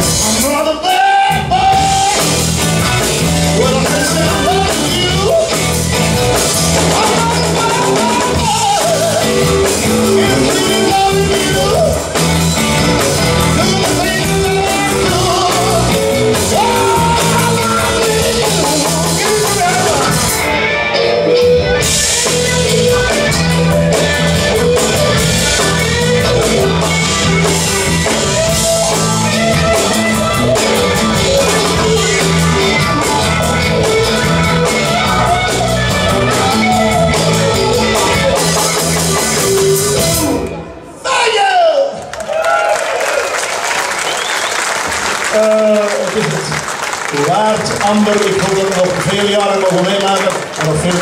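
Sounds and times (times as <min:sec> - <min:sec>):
rock band playing: 0:00.0 - 0:51.0.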